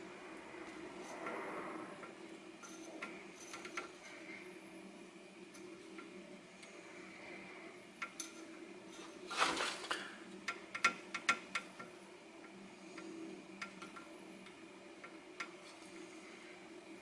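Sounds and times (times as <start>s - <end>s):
faint steady hum: 0.0s - 17.0s
soldering iron sizzle: 0.0s - 17.0s.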